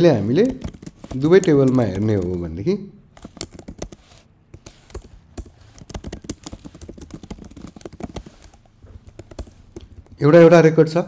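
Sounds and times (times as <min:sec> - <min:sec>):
keyboard typing: 0:00.0 - 0:02.5, 0:03.1 - 0:10.4.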